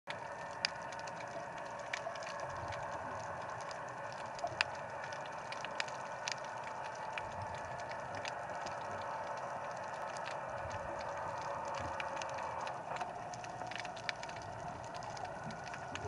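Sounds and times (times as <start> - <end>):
sharp clicks and crackles: 0.1 - 16.0.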